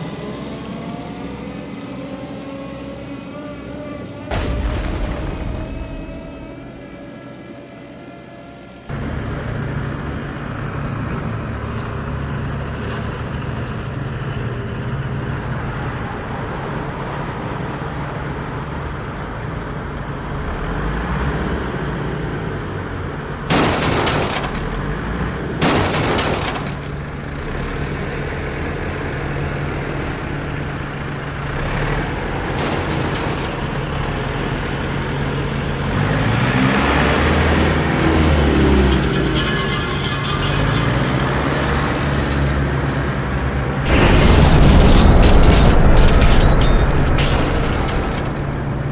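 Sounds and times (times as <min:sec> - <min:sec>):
heavy vehicle engine rumbling: 0:00.0 - 0:48.9.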